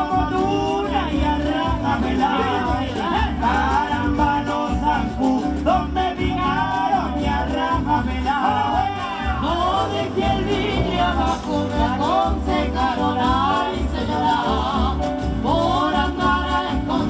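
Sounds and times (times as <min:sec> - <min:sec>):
live latin band music: 0:00.0 - 0:17.0.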